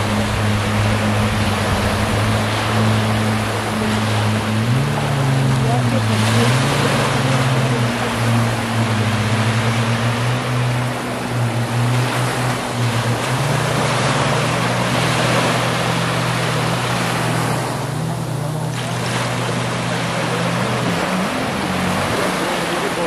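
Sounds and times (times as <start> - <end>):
jet ski engines droning: 0.0 - 23.0
waves breaking on shore: 0.0 - 23.0.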